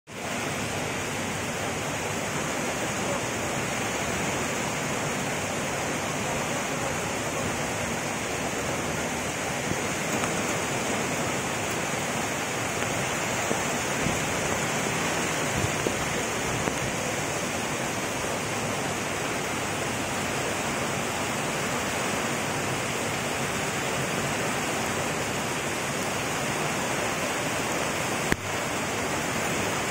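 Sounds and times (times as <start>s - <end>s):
rushing flooded river: 0.1s - 29.9s.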